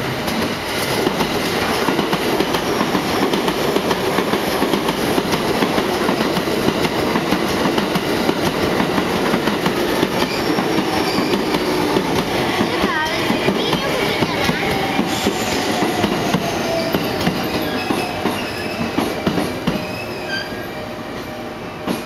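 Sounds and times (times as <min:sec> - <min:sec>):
train wheels clattering over rails: 0:00.2 - 0:20.3.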